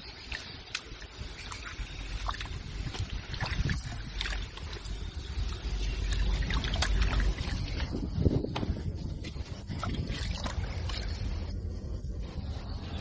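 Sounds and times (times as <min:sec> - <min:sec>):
wind buffeting microphone: 0:00.8 - 0:13.0.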